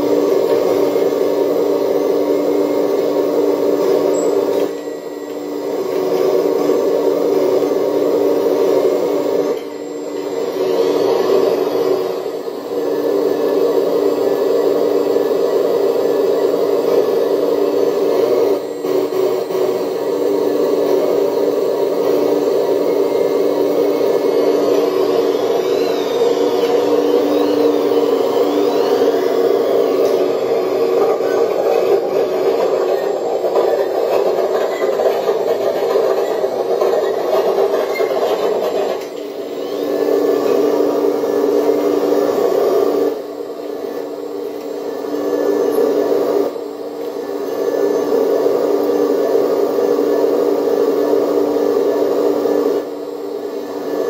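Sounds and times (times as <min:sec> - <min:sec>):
hydraulic pump whine: 0:00.0 - 0:54.0.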